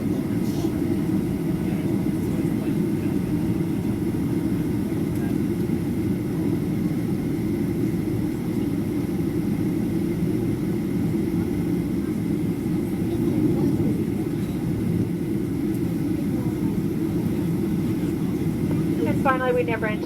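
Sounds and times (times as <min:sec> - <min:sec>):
aircraft cabin rumble: 0:00.0 - 0:20.0.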